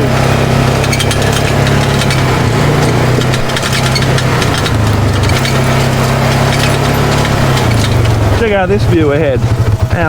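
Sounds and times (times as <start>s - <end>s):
engine low hum: 0.0s - 10.0s
tyres crunching on dirt: 0.0s - 10.0s.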